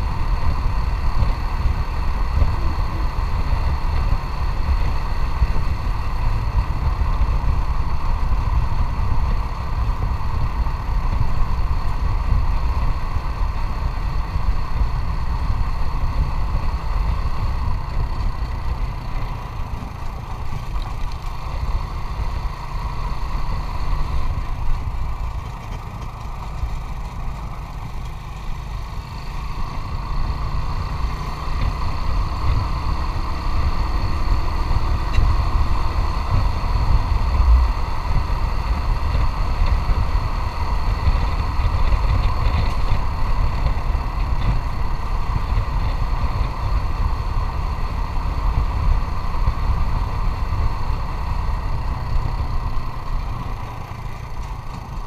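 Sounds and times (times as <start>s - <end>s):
wind rumble on microphone: 0.0s - 27.8s, 29.4s - 55.0s
motorcycle engine running: 0.0s - 55.0s.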